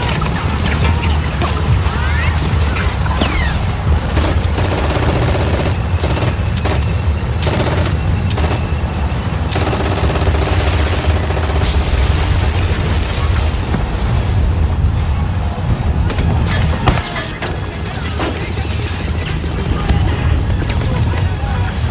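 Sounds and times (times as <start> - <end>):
rapid gunfire and bangs: 0.0 - 14.6, 16.0 - 21.9
steady low rumble: 0.0 - 21.9.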